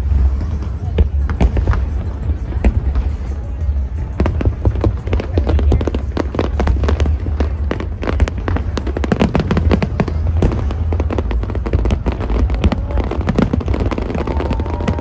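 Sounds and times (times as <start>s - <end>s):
fireworks bangs and crackles: 0.0s - 15.0s
steady low rumble: 0.0s - 15.0s.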